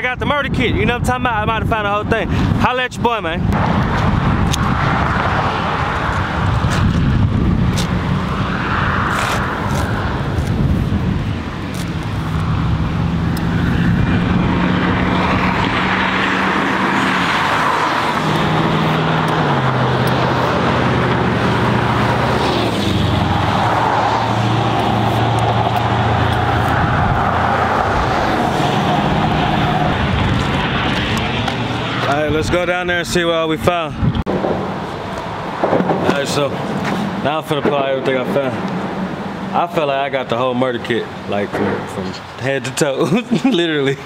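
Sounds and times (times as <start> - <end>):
road and wind noise: 0.0 - 44.0
vehicle engine hum: 3.4 - 33.2, 34.0 - 42.4.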